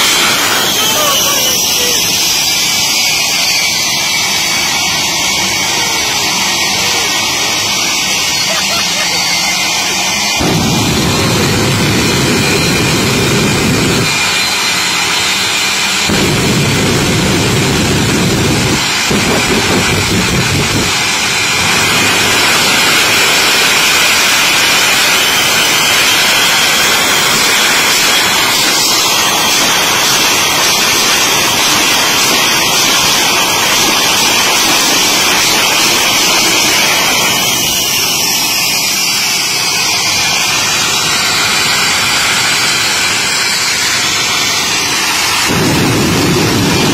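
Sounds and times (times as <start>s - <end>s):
jet engine blast with whine: 0.0s - 46.9s.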